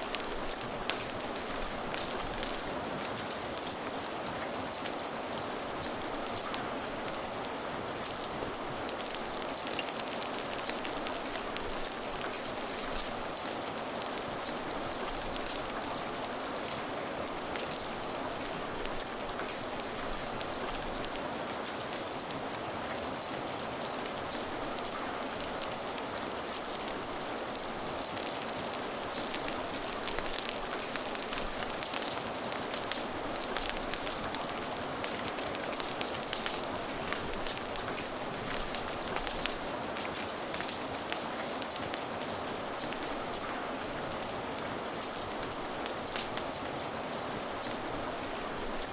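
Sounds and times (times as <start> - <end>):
crackling fire: 0.0 - 48.9
steady rain falling: 0.0 - 48.9.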